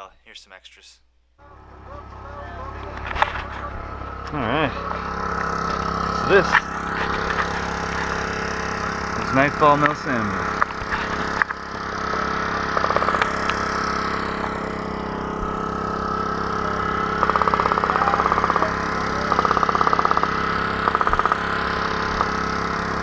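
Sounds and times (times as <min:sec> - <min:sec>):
engine-like hum: 0:01.1 - 0:23.0
rapid clicking bursts: 0:04.1 - 0:23.0.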